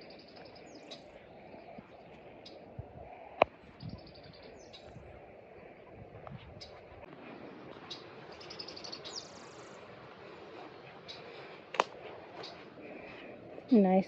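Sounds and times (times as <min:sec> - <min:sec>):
low outdoor noise: 0:00.0 - 0:14.0
small birds chirping: 0:00.0 - 0:14.0.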